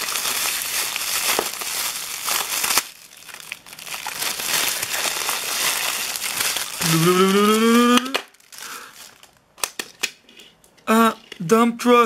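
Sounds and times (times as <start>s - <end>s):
cellophane crinkling: 0.0s - 9.9s.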